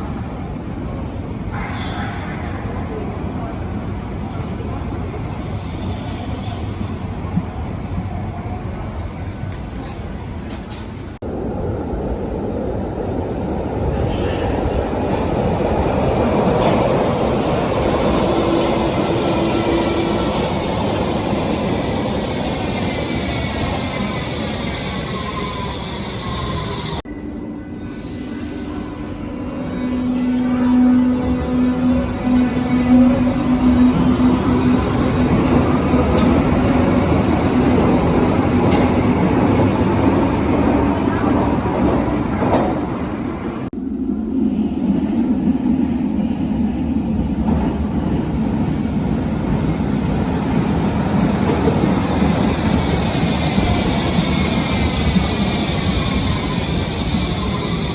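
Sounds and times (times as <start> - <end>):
subway train wheels rumbling on rail: 0.0 - 57.9.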